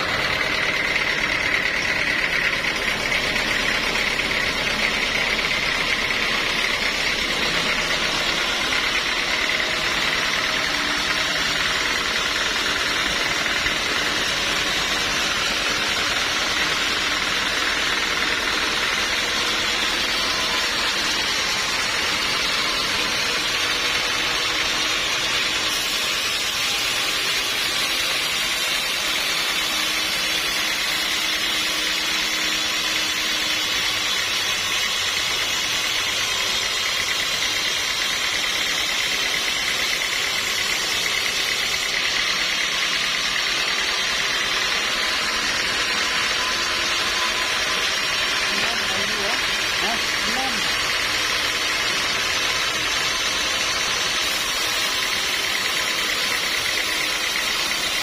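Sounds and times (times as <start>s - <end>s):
sawmill machinery drone and hiss: 0.0s - 58.0s.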